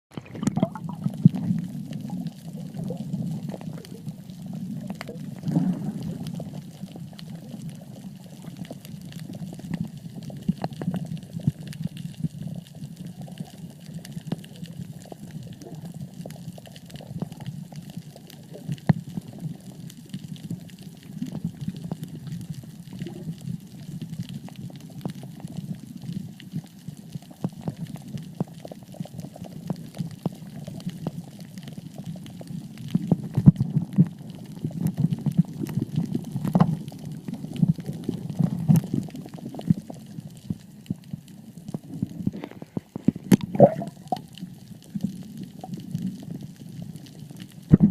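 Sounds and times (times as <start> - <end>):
muffled underwater churning: 0.1 - 47.9
small clicks and crackles: 0.5 - 47.9.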